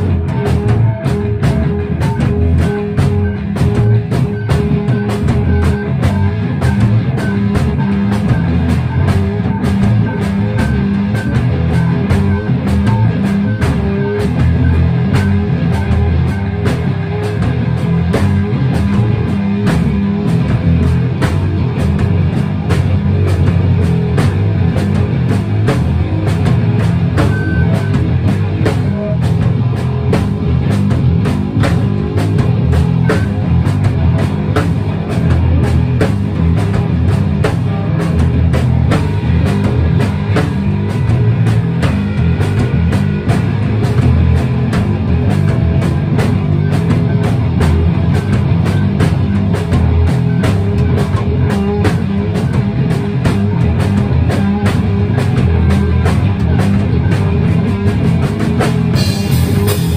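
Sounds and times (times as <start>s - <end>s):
electric guitars: 0.0s - 59.9s
steady drumming: 0.0s - 59.9s.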